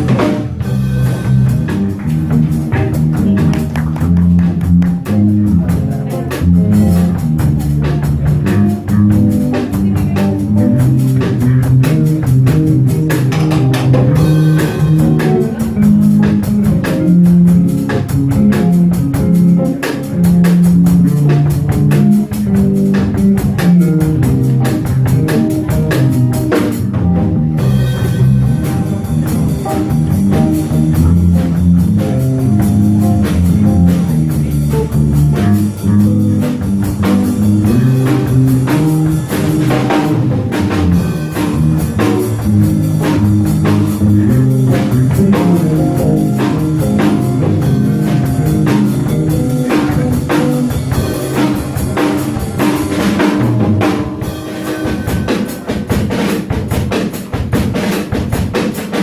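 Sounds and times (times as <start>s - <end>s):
bass notes: 0.0s - 57.8s
drum kit and cymbals: 0.0s - 59.0s
jazz combo playing live: 0.0s - 59.0s.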